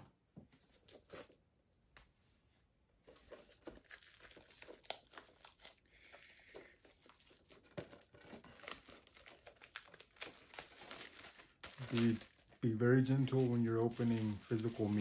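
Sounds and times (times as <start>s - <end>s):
shrink wrap crinkling and tearing: 0.6s - 1.4s, 3.0s - 15.0s.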